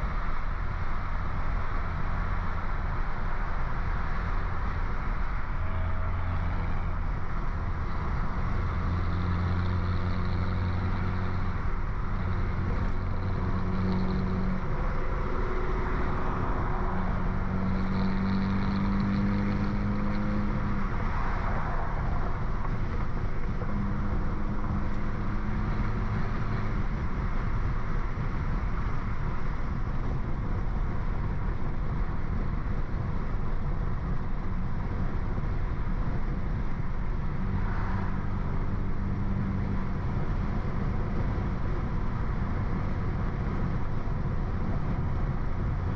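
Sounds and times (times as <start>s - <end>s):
road noise: 0.0s - 45.9s
turbocharged car engine cruising: 0.0s - 45.9s.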